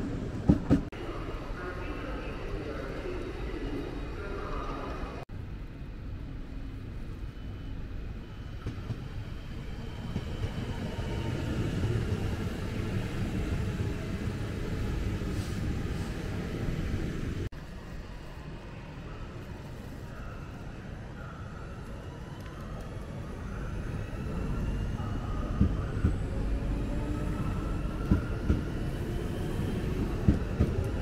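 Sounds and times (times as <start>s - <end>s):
train rumbling: 0.0s - 18.9s, 21.9s - 31.0s.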